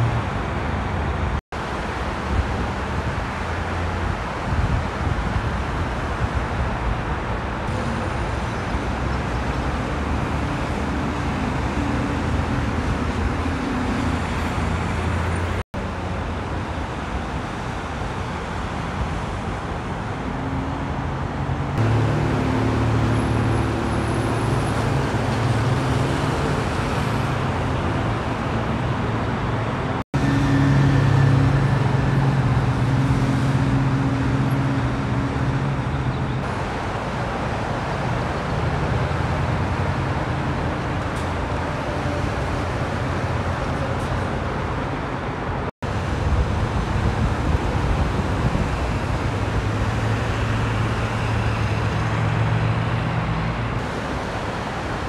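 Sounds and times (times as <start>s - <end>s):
dense freeway traffic: 0.0s - 55.0s
heavy truck engine drone: 0.0s - 55.0s.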